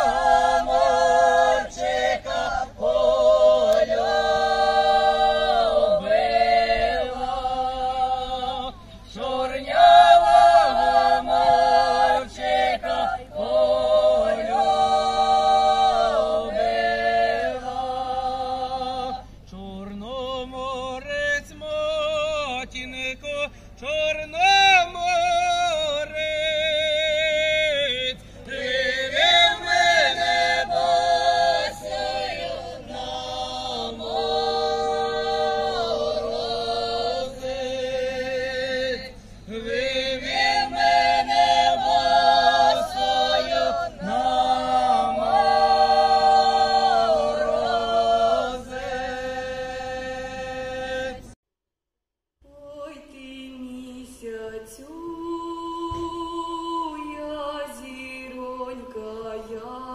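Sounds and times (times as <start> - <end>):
women singing in harmony: 0.0 - 22.4, 25.3 - 51.4, 52.5 - 59.9.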